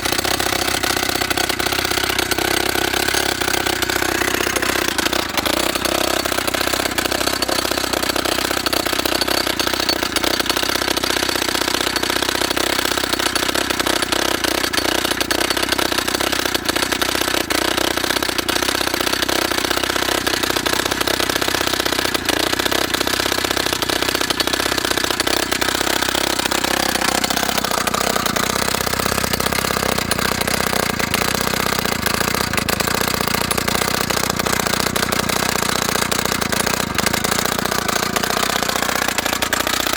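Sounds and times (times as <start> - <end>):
petrol rock drill hammering: 0.0 - 39.9.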